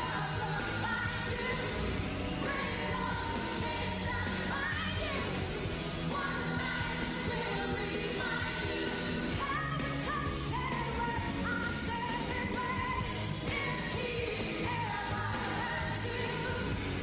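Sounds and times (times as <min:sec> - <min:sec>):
rock band playing: 0:00.0 - 0:14.8.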